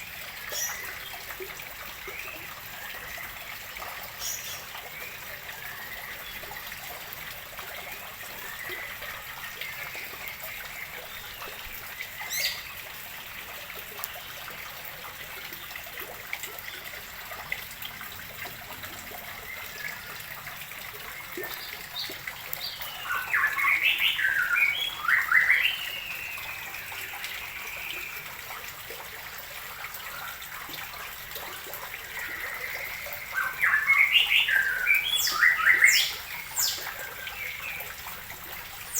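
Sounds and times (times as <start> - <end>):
water trickling into pond: 0.0 - 38.9
songbirds chirping: 0.3 - 14.6, 16.5 - 28.5, 29.5 - 38.9.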